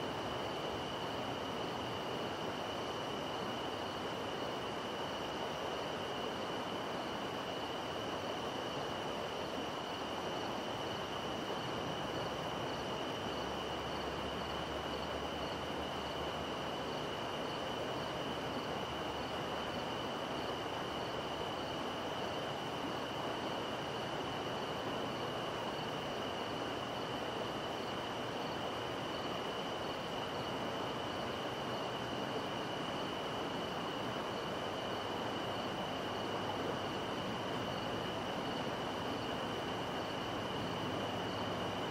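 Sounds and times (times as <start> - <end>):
high-pitched insect trill: 0.0 - 41.9.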